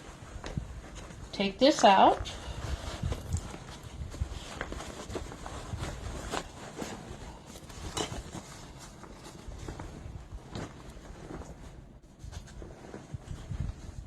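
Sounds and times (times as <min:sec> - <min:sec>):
nylon backpack rustling: 0:00.0 - 0:14.0.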